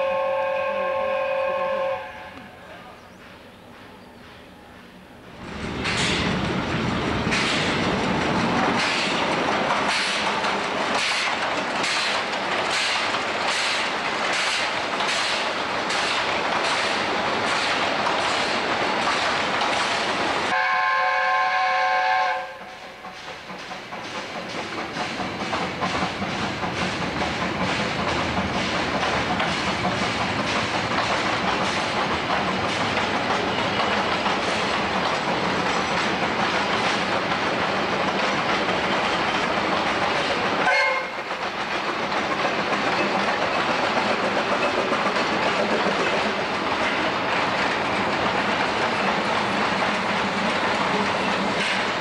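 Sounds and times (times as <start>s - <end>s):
steam locomotive running past: 0.0s - 52.0s
train wagons rolling past: 1.6s - 52.0s
wheels clattering over rail joints: 5.4s - 20.4s, 22.9s - 52.0s.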